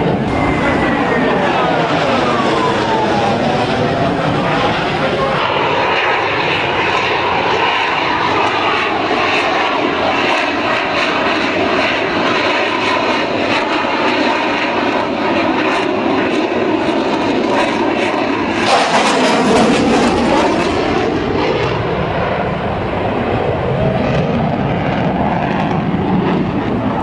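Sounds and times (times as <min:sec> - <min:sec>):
fighter jet engine roar: 0:00.0 - 0:27.0.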